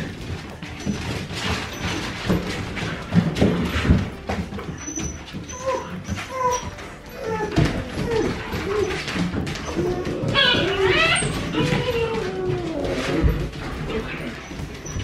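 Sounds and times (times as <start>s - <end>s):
paws scuffling on floor: 0.0s - 15.0s
puppies whimpering and yipping: 0.0s - 15.0s
puppies whining: 0.0s - 15.0s.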